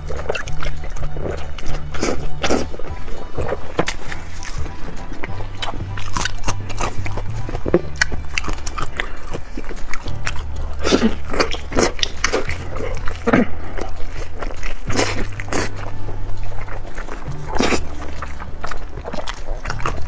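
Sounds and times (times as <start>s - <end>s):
mouth clicks: 0.0s - 20.0s
wet chewing and smacking: 0.0s - 20.0s.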